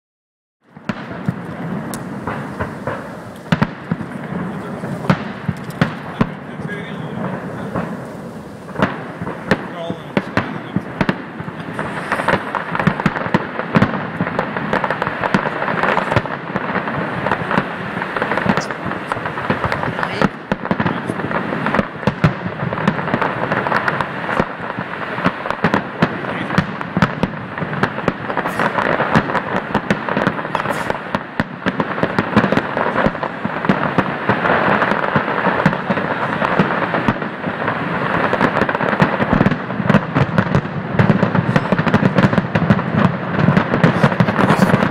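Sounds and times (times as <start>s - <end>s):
fireworks crackling and popping: 0.6s - 44.9s
fireworks shells bursting: 0.6s - 44.9s
loud fireworks bangs: 0.6s - 44.9s.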